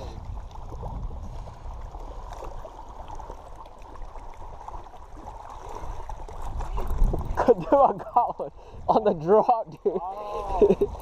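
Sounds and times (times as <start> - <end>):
wind buffeting microphone: 0.0 - 3.6, 4.6 - 11.0
water lapping against rocks: 0.0 - 11.0.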